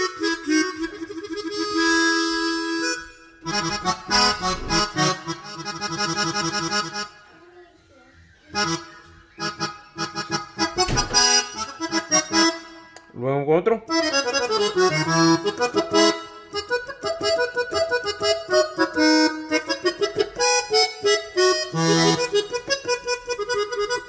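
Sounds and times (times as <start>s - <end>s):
keyboard harmonica and accordion melody: 0.0s - 7.6s, 8.2s - 13.2s, 13.9s - 24.0s.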